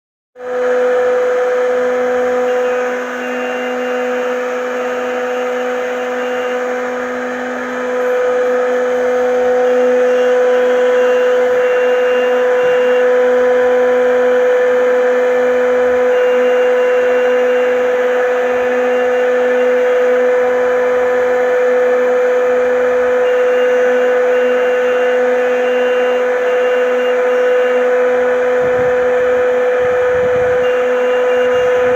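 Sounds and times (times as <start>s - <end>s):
cnc router spindle whine: 0.4s - 31.9s.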